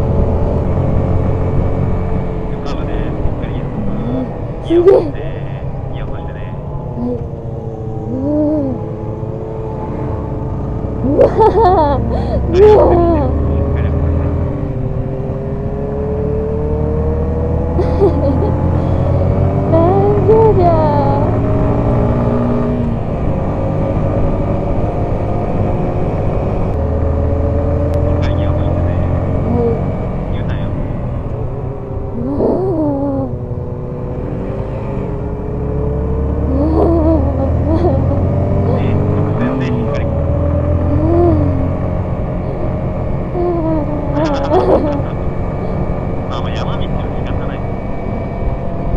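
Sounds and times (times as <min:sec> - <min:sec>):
road and wind rumble: 0:00.0 - 0:48.9.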